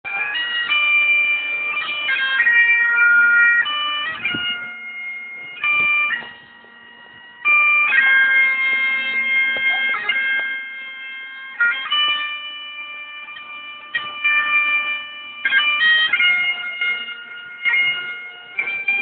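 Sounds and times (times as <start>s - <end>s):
bagpipes playing slow tune: 0.1s - 19.0s.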